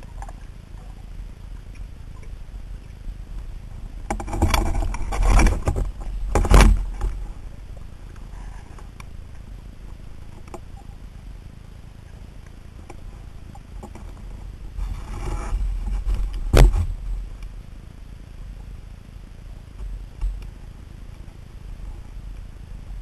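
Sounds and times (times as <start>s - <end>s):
low steady underwater noise: 0.0s - 23.0s
underwater rattling and rushing: 0.0s - 23.0s.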